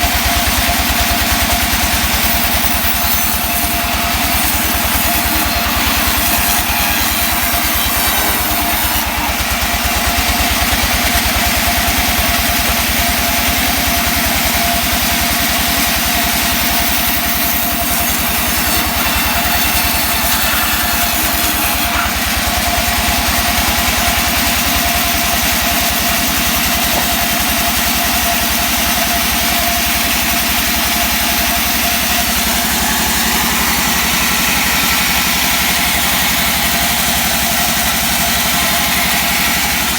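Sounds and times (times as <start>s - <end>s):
sawing machine engine running: 0.0s - 39.9s.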